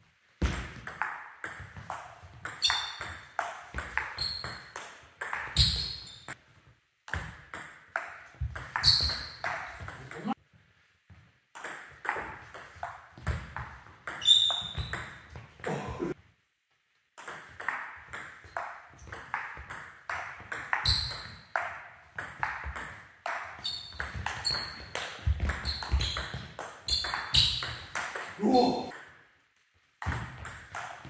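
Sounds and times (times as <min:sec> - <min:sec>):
ball bouncing on table: 0:00.4 - 0:06.4, 0:07.1 - 0:10.4, 0:11.6 - 0:16.0, 0:17.2 - 0:28.4, 0:30.0 - 0:31.0.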